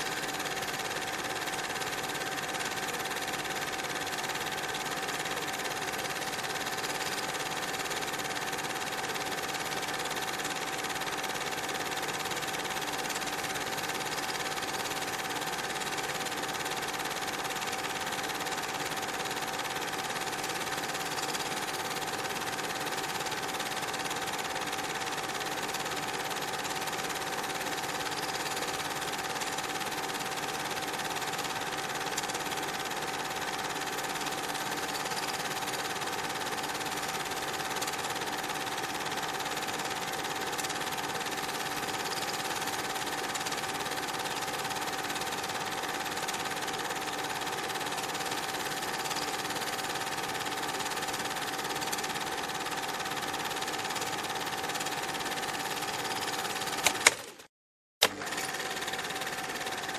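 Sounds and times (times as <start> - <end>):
mechanical whirr and clatter: 0.0 - 59.9.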